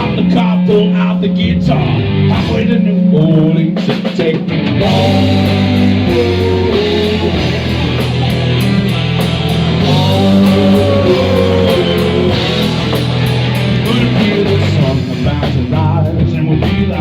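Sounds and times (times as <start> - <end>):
bass line: 0.0 - 17.0
electric guitar: 0.0 - 17.0.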